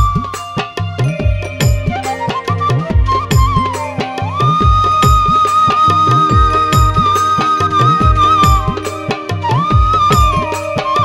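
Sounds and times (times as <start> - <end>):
folk drum rhythm: 0.0 - 11.0
bamboo flute long high note: 1.9 - 11.0.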